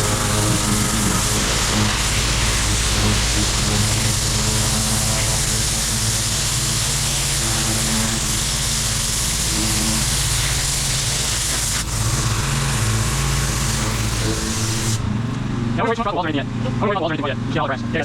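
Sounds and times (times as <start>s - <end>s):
pressure washer water spray hiss: 0.0s - 15.4s
washer engine running: 0.0s - 18.0s.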